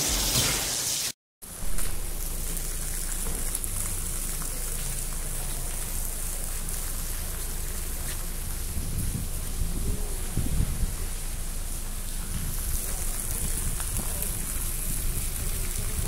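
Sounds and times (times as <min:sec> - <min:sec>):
steady rain-like hiss: 0:00.0 - 0:16.0.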